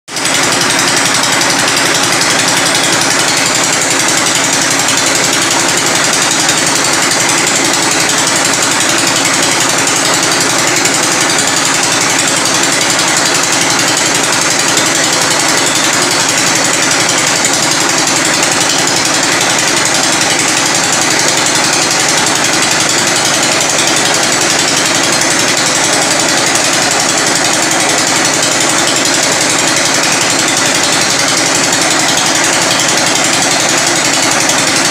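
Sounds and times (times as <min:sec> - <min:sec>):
drilling rig boring into rock: 0:00.1 - 0:34.9.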